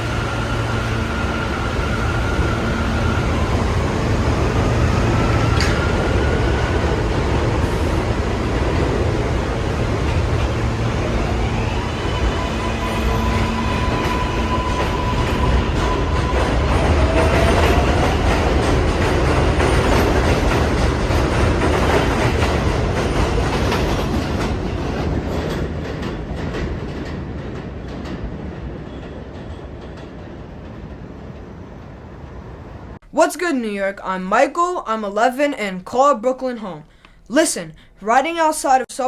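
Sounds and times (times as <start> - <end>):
subway train rumbling on track: 0.0 - 33.0.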